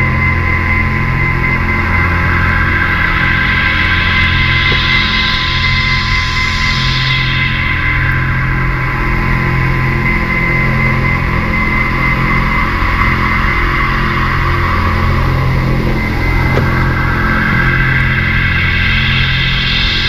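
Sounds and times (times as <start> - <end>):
mechanical drone: 0.0 - 20.0.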